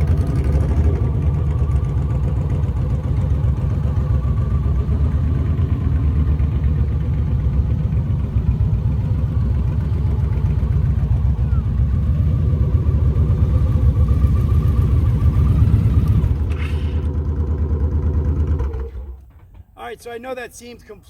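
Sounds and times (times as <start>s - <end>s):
motorcycle engine running at low speed: 0.0s - 19.6s.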